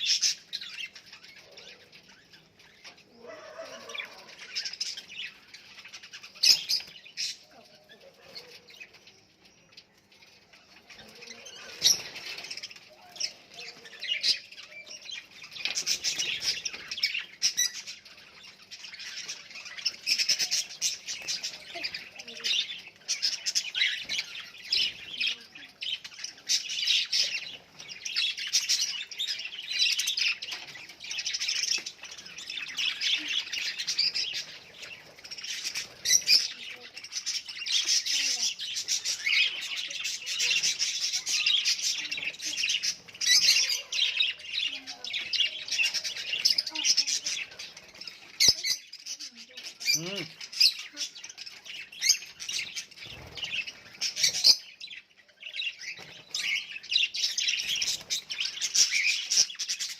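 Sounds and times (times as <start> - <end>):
flock of budgerigars chattering: 0.0 - 59.9.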